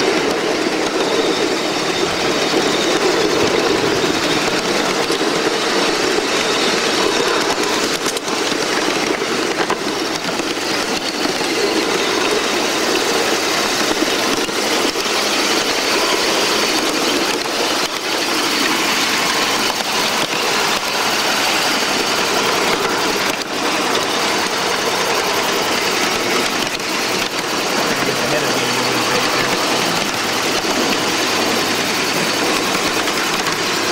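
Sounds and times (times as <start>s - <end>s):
steam locomotive clatter and hiss: 0.0s - 33.9s.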